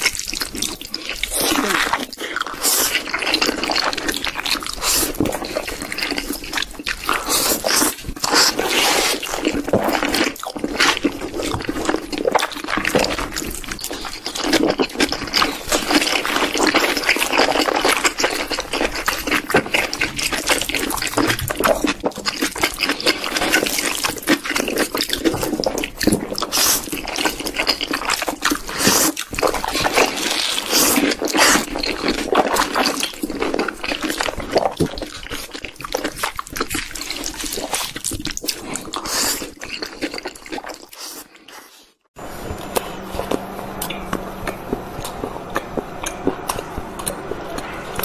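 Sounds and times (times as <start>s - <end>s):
slurping noodles: 0.0s - 48.0s
wet chewing and lip smacking: 0.0s - 48.0s.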